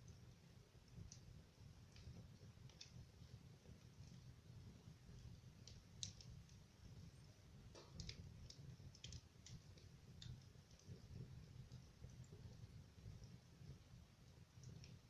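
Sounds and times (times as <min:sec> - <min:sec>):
wood fire popping and crackling: 0:00.0 - 0:15.0.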